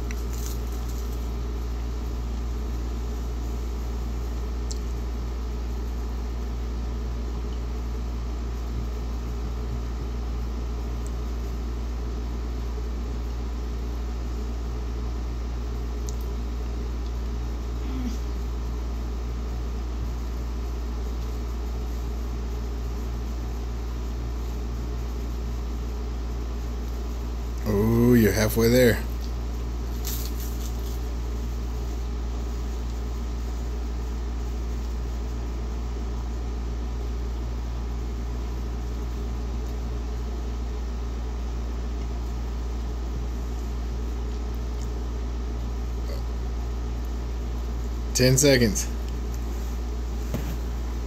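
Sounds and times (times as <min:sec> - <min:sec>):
low hum and hiss: 0:00.0 - 0:51.0.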